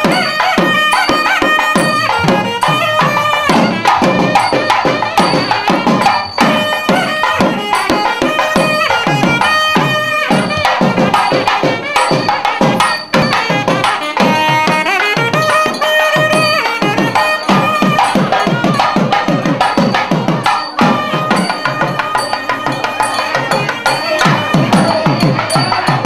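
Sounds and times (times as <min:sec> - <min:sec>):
fast drumming: 0:00.0 - 0:26.0
reed pipe melody: 0:00.0 - 0:26.0.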